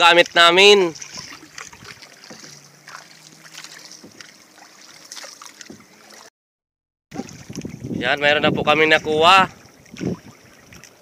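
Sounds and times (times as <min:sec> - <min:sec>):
faint hiss of wind and water: 0:00.0 - 0:06.3, 0:07.2 - 0:11.0
paddle water splashes: 0:00.0 - 0:06.3, 0:07.1 - 0:11.0.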